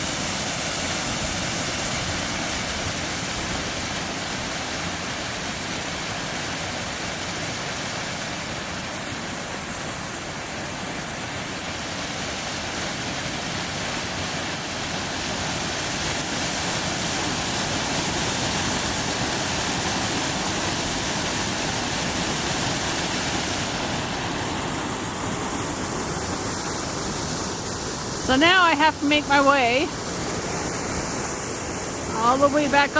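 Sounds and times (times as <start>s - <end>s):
water rushing over waterfall: 0.0s - 32.9s.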